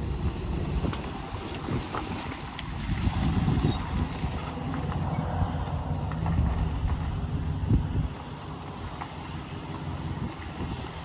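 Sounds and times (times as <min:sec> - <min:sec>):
wind rumbling on microphone: 0:00.0 - 0:08.9, 0:10.0 - 0:11.0.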